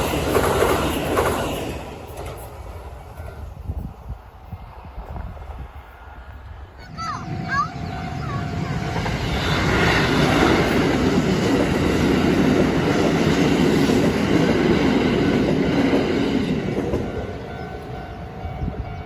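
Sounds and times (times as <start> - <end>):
train passing on tracks: 0.0 - 19.0.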